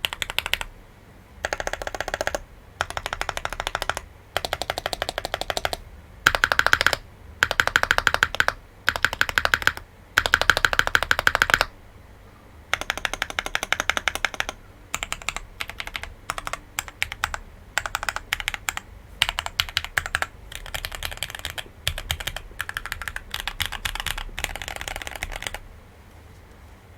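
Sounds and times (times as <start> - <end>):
mechanical keyboard typing: 0.0 - 0.7, 1.4 - 11.7, 12.7 - 25.6.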